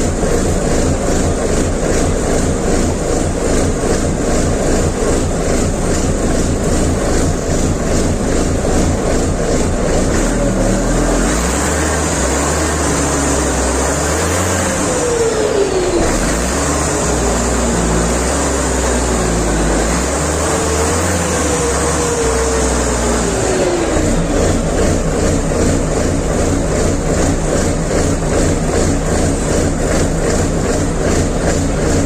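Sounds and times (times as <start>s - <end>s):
diesel truck engine running: 0.0s - 32.0s.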